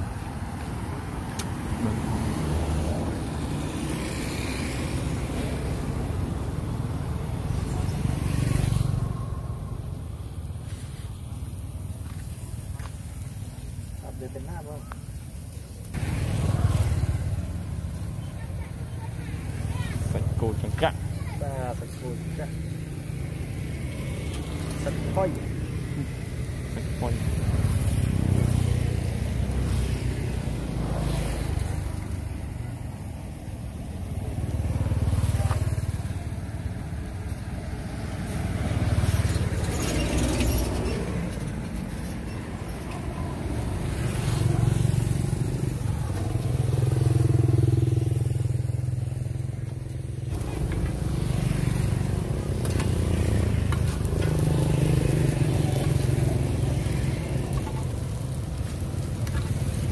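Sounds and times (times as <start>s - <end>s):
motorbikes passing: 0.0s - 59.9s
street noise: 0.0s - 59.9s.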